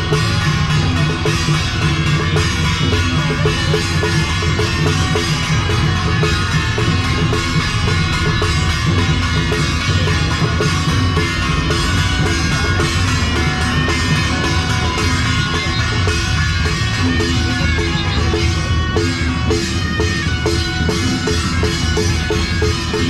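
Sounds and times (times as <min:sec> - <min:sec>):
music with drum beat: 0:00.0 - 0:23.0.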